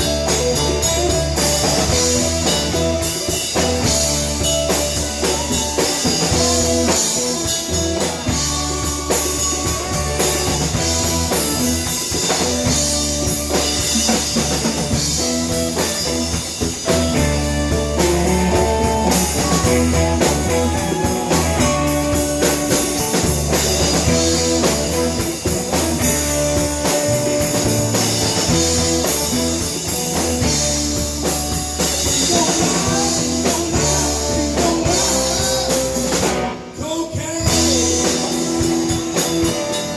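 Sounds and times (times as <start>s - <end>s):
bass line: 0.0s - 39.9s
drum kit beat: 0.0s - 39.9s
electric guitar: 0.0s - 39.9s.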